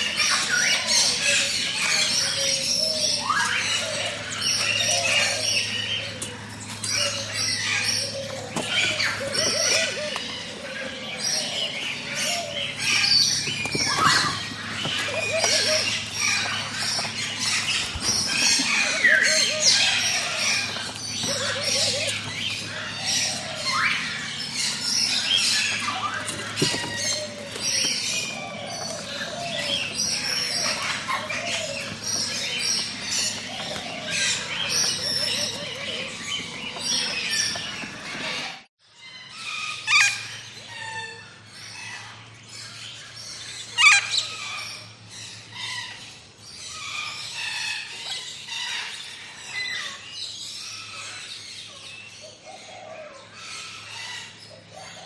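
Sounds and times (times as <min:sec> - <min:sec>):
tropical birds chirping and squawking: 0:00.0 - 0:55.0.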